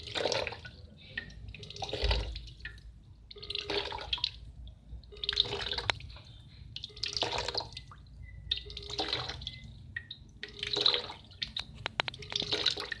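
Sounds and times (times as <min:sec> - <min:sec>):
water gurgling and splashing: 0:00.0 - 0:04.4, 0:06.8 - 0:13.0
water drips and plinks: 0:00.0 - 0:13.0.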